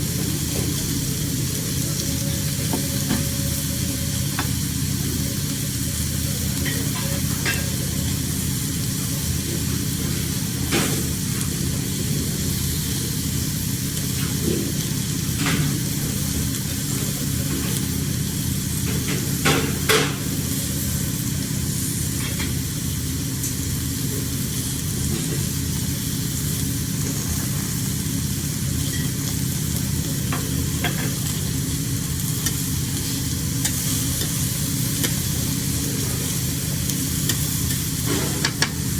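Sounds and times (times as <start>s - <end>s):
seafood sizzling on a grill: 0.0s - 38.9s.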